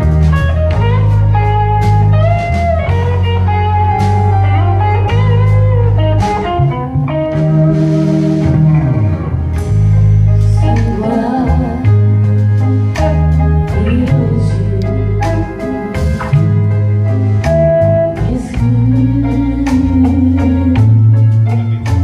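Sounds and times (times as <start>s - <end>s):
drum kit steady beat: 0.0s - 22.0s
electric guitar lead: 0.0s - 22.0s
walking bass line: 0.0s - 22.0s.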